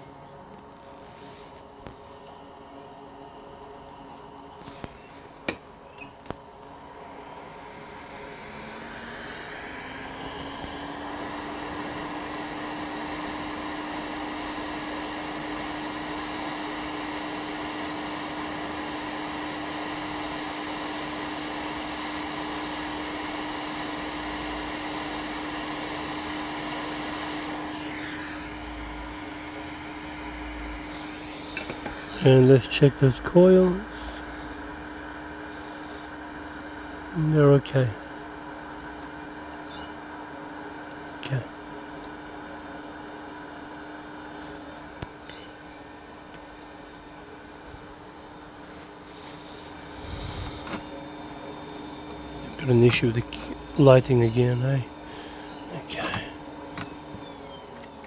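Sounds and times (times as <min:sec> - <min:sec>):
hot air blower rushing: 0:06.6 - 0:58.0.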